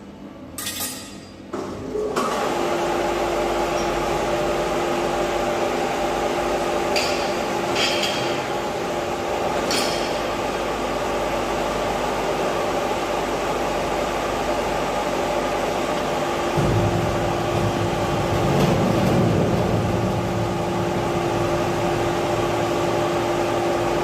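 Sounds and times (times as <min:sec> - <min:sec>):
machine humming: 0:02.3 - 0:24.0.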